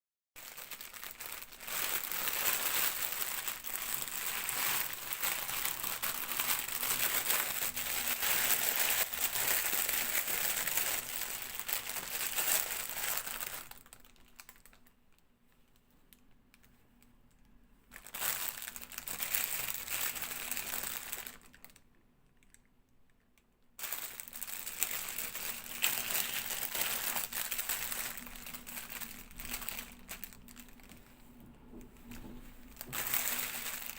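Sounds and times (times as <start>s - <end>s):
packaging crinkling: 0.4s - 14.9s, 17.9s - 21.8s, 23.8s - 31.1s, 32.0s - 33.9s.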